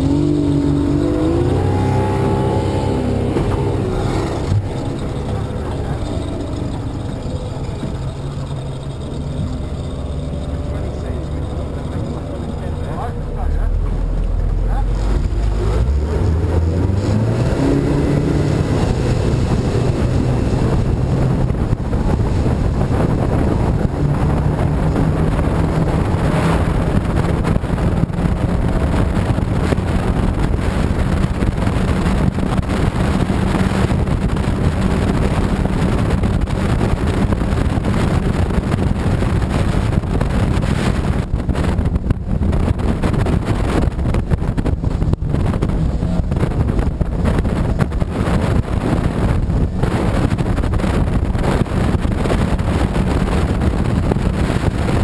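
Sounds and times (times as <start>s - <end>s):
powerboat engine: 0.0s - 55.0s
water rushing against hull: 0.0s - 55.0s
wind buffeting microphone: 0.0s - 55.0s.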